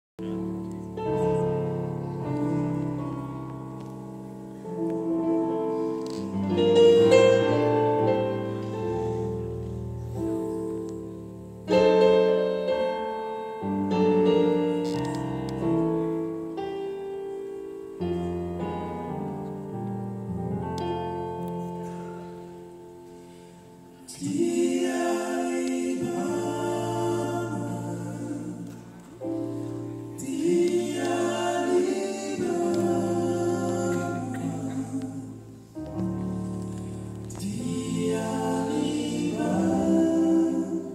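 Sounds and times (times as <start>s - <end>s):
slow piano chords: 0.2s - 40.9s.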